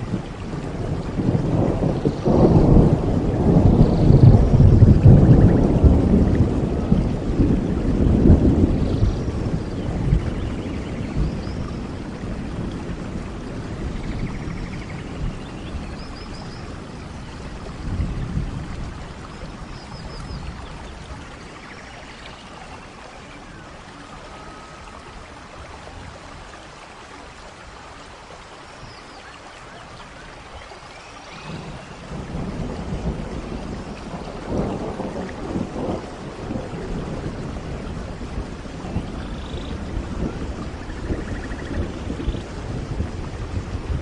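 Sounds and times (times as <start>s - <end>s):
thunder rumbling: 0.0s - 26.5s, 31.3s - 44.0s
steady rain in forest: 0.0s - 44.0s.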